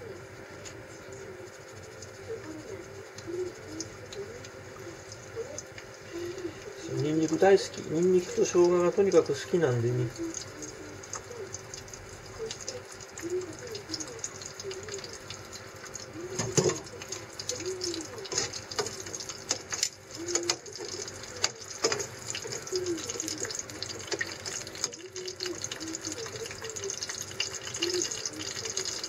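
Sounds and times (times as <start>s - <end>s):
oil crackles and pops: 0.0s - 29.0s
oil sizzling in a frying pan: 0.0s - 29.0s.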